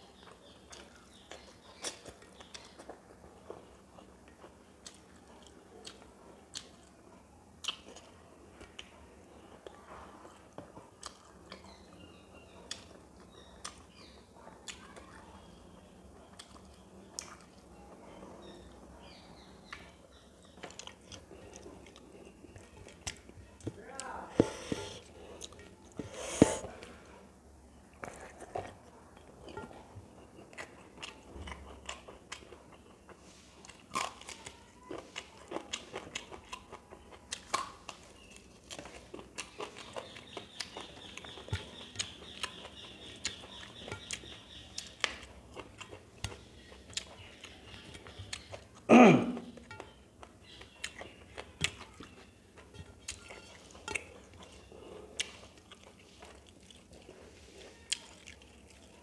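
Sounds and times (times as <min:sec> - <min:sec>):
person chewing: 0:00.2 - 0:07.0, 0:07.6 - 0:12.0, 0:12.6 - 0:15.2, 0:16.2 - 0:17.6, 0:19.6 - 0:27.2, 0:27.9 - 0:59.0.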